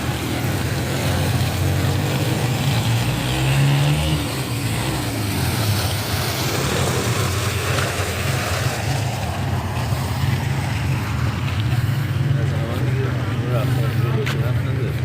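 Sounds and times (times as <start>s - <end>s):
car engine and tyre hum: 0.0s - 15.0s
road rumble: 0.0s - 15.0s.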